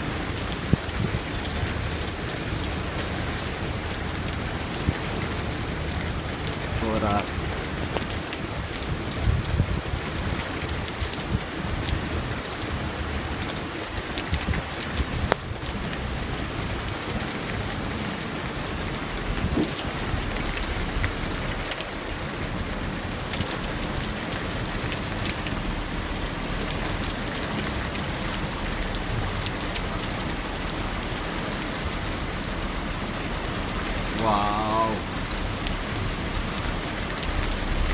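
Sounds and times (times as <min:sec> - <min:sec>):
heavy rain falling: 0:00.0 - 0:37.9
raindrops clicking: 0:00.0 - 0:37.9.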